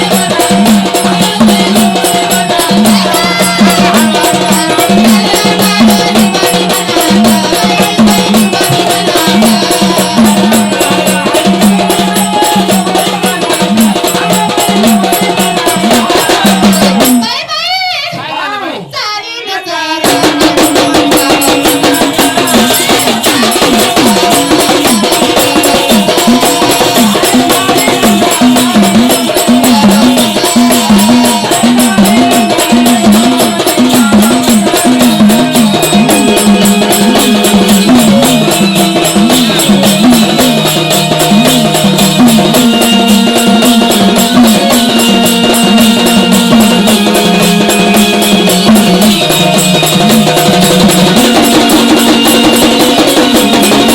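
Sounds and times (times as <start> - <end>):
trilling melody line: 0.0 - 17.4, 20.1 - 53.9
fast hand drum playing: 0.0 - 17.8, 20.0 - 53.9.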